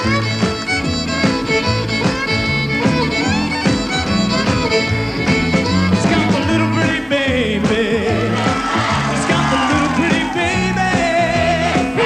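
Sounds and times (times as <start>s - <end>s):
fiddle playing: 0.0s - 12.0s
lively band music: 0.0s - 12.0s.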